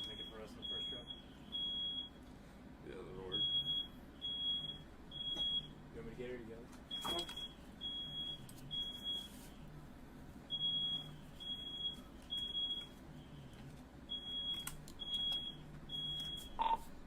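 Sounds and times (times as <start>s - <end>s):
smoke alarm beeping: 0.0s - 2.2s, 3.3s - 5.8s, 6.9s - 9.6s, 10.5s - 16.9s.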